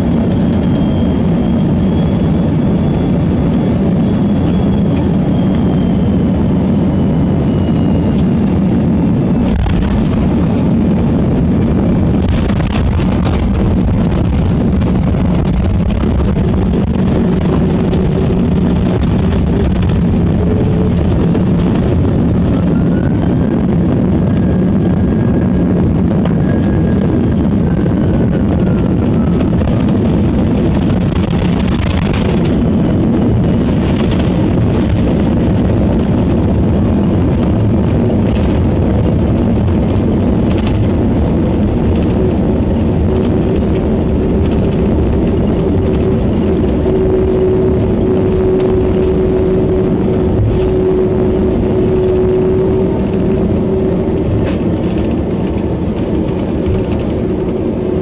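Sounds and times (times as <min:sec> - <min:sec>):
faint whine: 0:00.0 - 0:58.0
low rumble of engines and wheels: 0:00.0 - 0:58.0.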